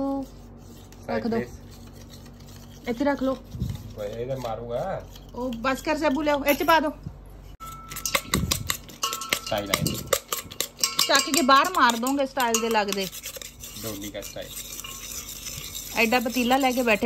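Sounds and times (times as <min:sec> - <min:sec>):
spoon scraping a bowl: 0:00.0 - 0:17.0.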